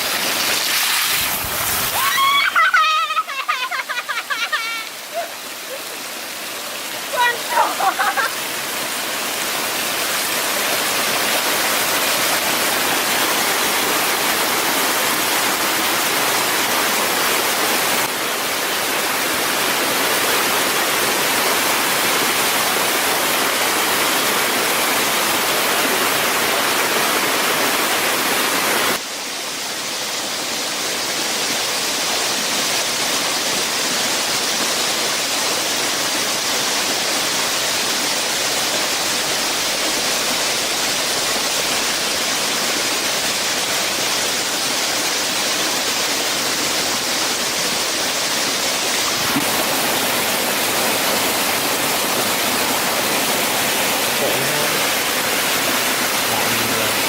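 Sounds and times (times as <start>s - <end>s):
loud steady hissing noise: 0.0s - 57.0s.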